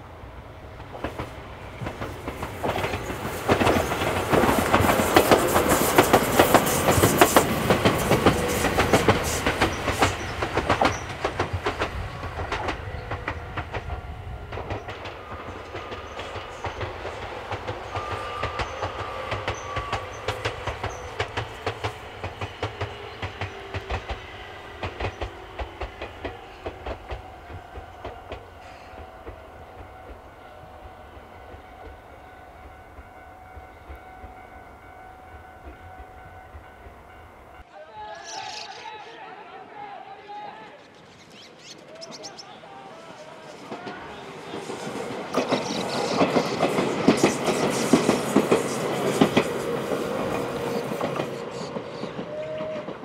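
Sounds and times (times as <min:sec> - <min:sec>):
train wheels clicking over rail joints: 0:00.6 - 0:34.5, 0:43.0 - 0:53.0.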